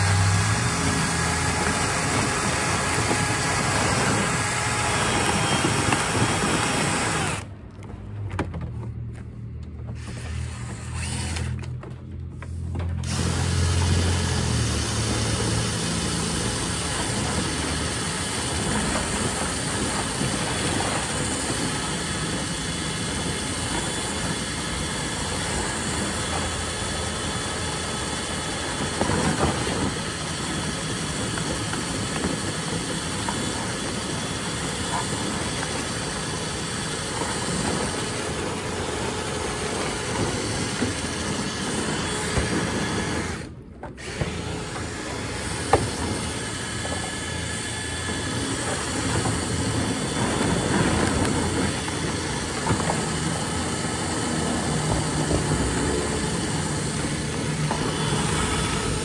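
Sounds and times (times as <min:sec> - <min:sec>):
rotary brush whirring in duct: 0:00.0 - 0:08.3, 0:09.4 - 0:59.0.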